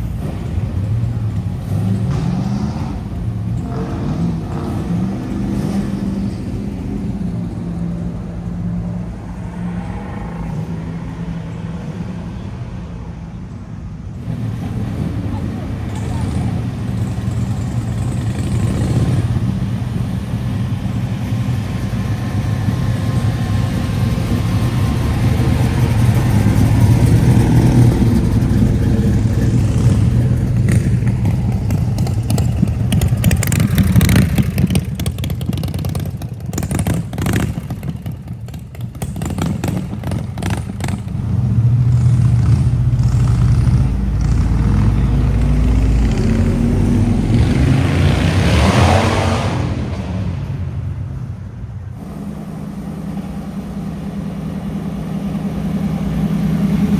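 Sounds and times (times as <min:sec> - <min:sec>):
engine revving: 0:00.0 - 0:08.2, 0:14.2 - 0:51.2, 0:51.9 - 0:56.9
car engines driving past: 0:00.0 - 0:56.9.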